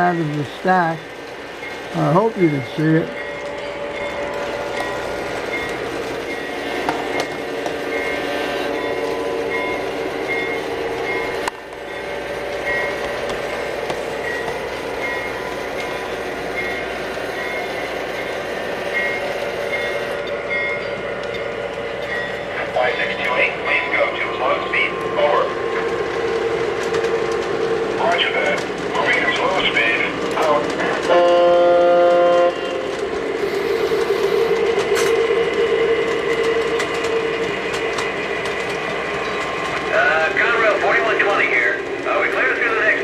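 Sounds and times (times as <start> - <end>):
model train engine and rolling: 0.0 - 43.0
wheels clicking on rail joint: 0.0 - 43.0.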